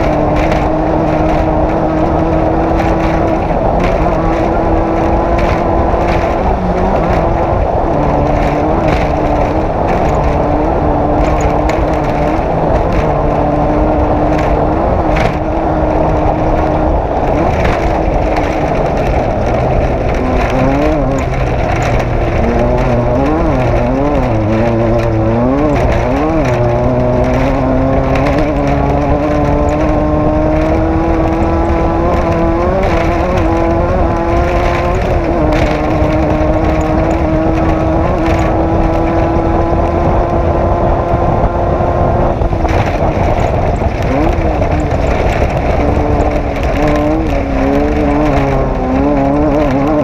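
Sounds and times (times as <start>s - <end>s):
race engine at high revs: 0.0s - 50.0s.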